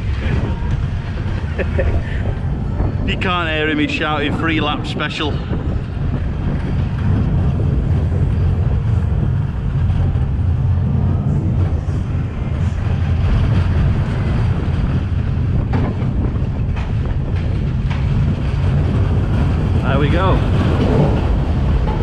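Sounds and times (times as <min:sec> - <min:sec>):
roller coaster wheels rumbling on rails: 0:00.0 - 0:22.0
sharp clacks of roller coaster: 0:00.0 - 0:22.0.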